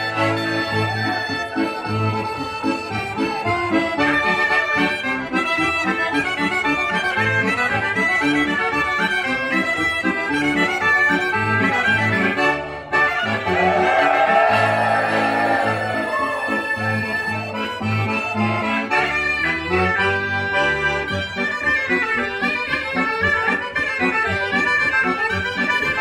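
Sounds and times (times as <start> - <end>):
accordion dance music: 0.0 - 26.0.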